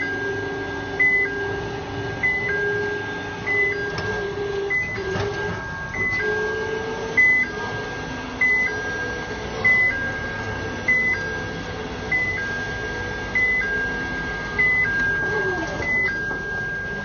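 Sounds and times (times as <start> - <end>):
forklift hum: 0.0 - 17.0
forklift warning alarm beeps: 0.0 - 17.0.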